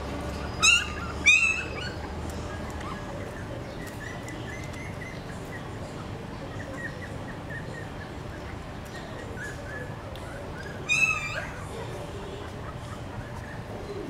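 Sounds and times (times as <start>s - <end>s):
puppy yelping: 0.4s - 14.0s.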